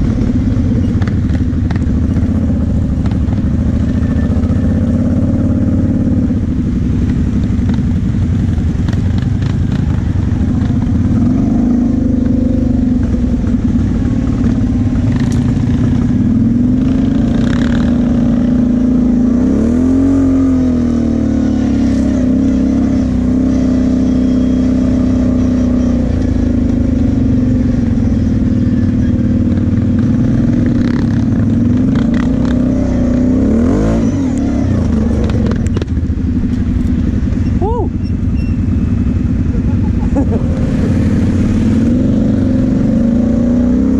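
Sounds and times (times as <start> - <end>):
quad bike engine revving: 0.0 - 43.9.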